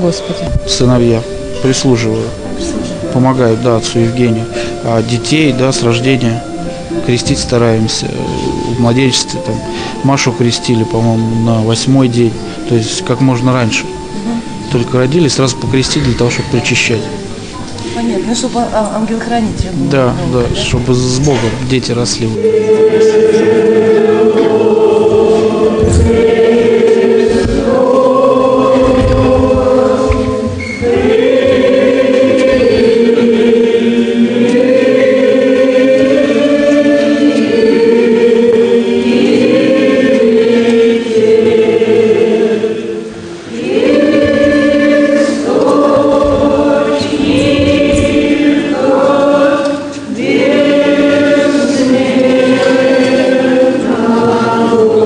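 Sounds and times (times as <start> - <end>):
church choir chanting: 0.0 - 55.0.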